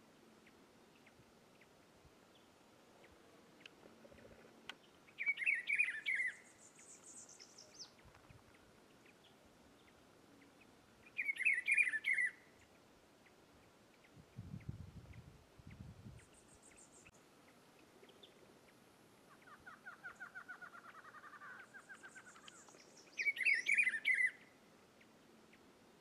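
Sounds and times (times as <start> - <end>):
bird singing warbled phrases: 0.3 - 26.0.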